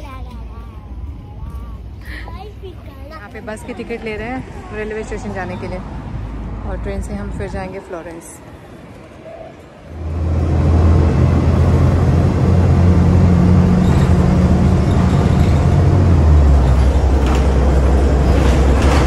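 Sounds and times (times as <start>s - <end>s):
bus engine low hum: 0.0s - 19.0s.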